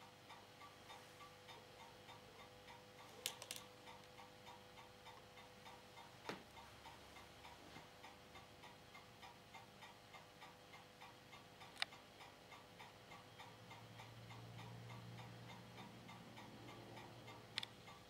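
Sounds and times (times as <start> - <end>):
projector ticking: 0.0 - 18.0.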